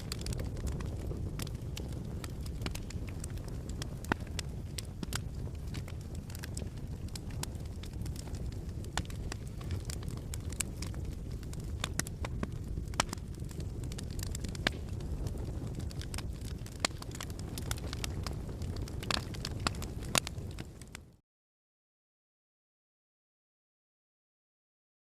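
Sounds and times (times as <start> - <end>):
fire crackling and popping: 0.0 - 21.2.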